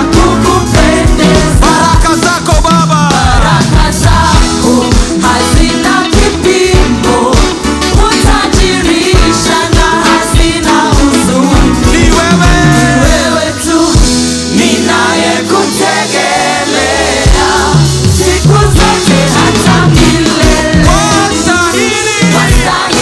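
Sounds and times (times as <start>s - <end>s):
band with drum beat and bass: 0.0s - 23.0s
voices singing gospel: 0.0s - 23.0s.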